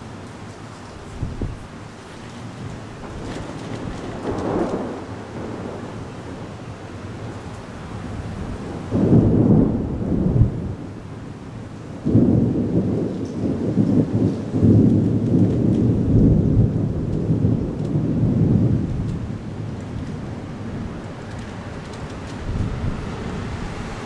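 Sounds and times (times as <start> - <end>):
thunder rumbling: 1.0 - 24.0.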